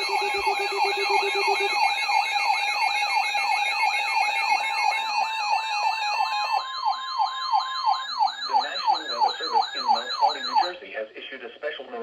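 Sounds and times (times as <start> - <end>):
falling siren sweep: 0.0 - 10.7
high warbling tone: 0.0 - 10.7
steady alert tones: 0.0 - 10.7.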